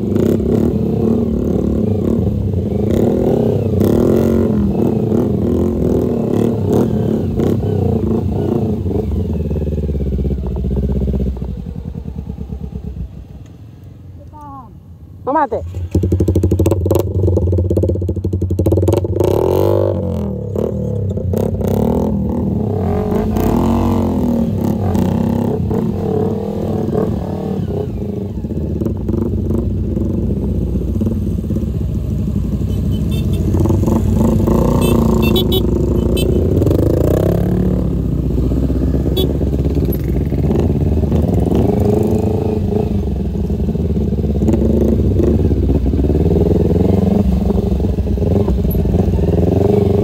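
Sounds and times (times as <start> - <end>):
motorcycle engine revving: 0.0 - 13.4, 15.3 - 50.0.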